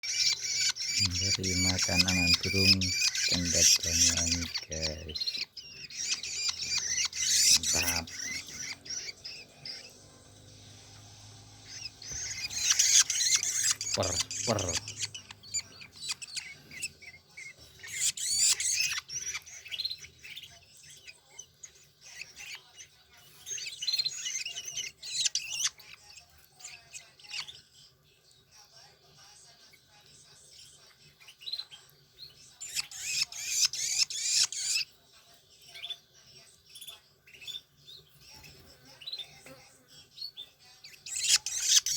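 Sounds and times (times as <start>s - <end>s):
nestlings begging chirps: 0.0s - 35.0s, 35.6s - 41.9s.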